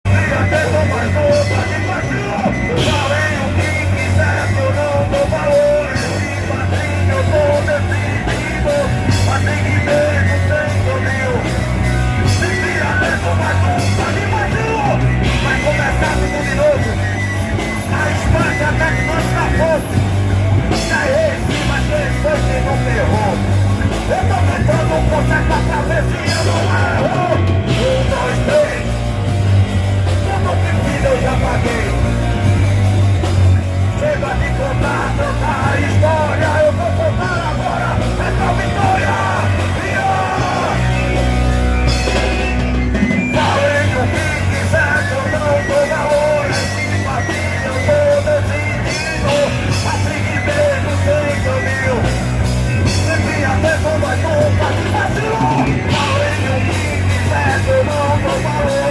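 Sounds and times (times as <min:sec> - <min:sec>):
live rock band playing: 0:00.0 - 0:58.9
shouted vocals: 0:00.1 - 0:29.2, 0:30.0 - 0:58.9.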